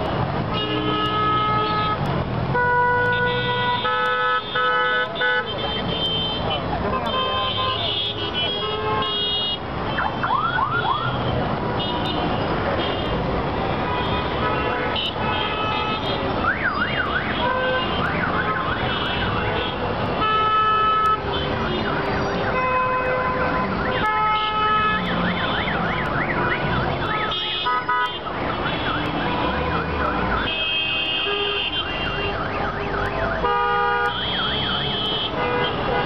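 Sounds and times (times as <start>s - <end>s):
car horns honking: 0.0s - 36.0s.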